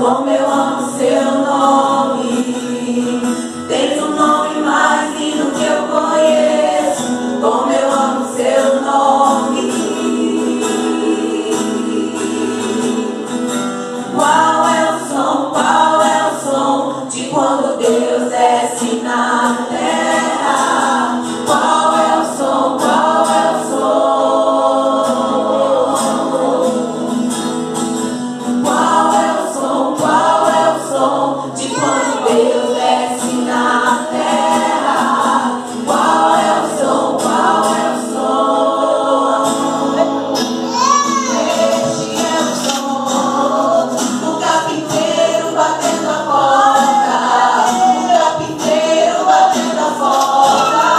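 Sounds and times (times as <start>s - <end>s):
women singing in harmony: 0.0s - 27.6s, 28.4s - 50.9s
acoustic guitar: 0.0s - 50.9s.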